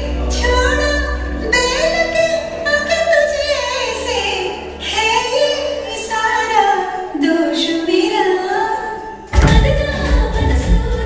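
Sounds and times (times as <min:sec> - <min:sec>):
woman singing slow melody: 0:00.0 - 0:11.0.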